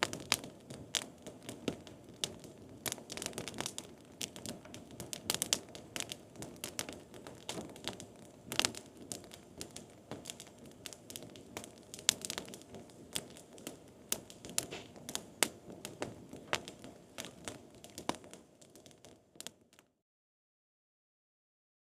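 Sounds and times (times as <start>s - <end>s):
low rush of flame: 0.0s - 19.3s
campfire crackling and popping: 0.0s - 20.0s.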